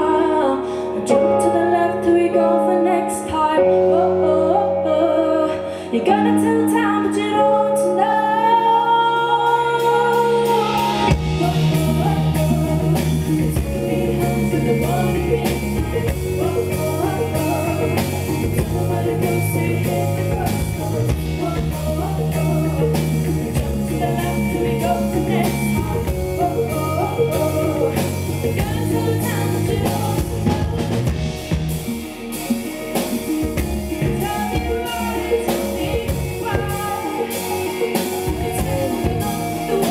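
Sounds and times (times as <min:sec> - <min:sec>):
woman singing: 0:00.0 - 0:31.5, 0:33.5 - 0:39.9
live pop rock band: 0:00.0 - 0:39.9.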